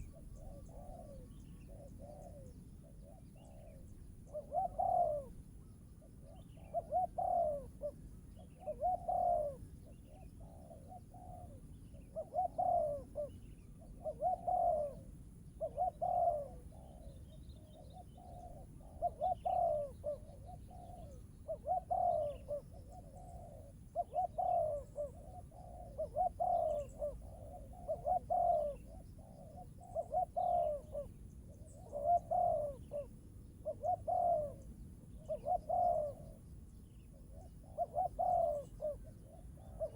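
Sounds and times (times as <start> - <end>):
small birds chirping: 0.0 - 5.4, 6.0 - 39.9
dove cooing: 0.0 - 39.9.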